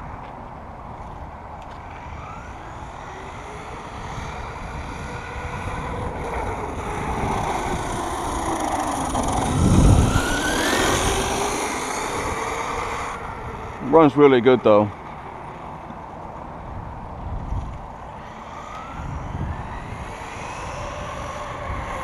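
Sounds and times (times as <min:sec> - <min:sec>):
rushing drive noise: 0:01.4 - 0:22.0
toy truck motor whining: 0:01.8 - 0:16.0, 0:18.0 - 0:22.0.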